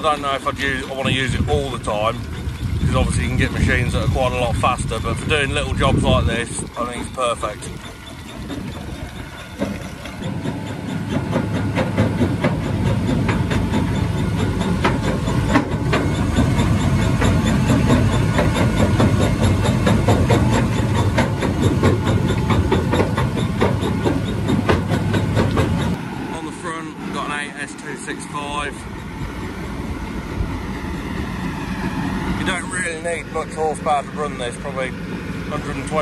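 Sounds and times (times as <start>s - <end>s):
low machine and tractor drone: 0.0s - 36.0s.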